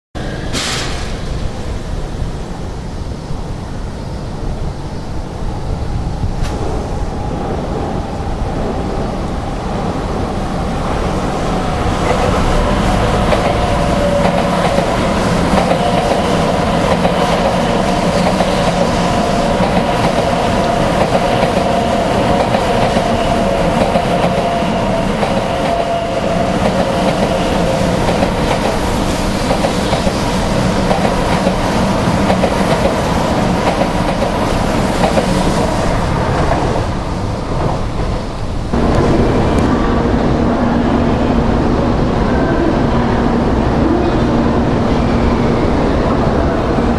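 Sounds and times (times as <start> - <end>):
high-speed train rolling on rails: 0.2 - 46.9.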